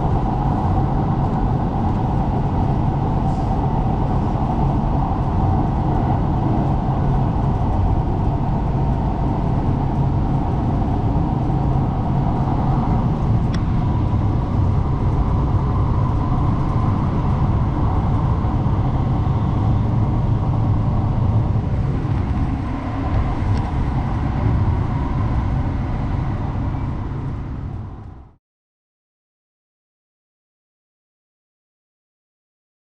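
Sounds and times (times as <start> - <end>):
light-rail train running: 0.0 - 28.4.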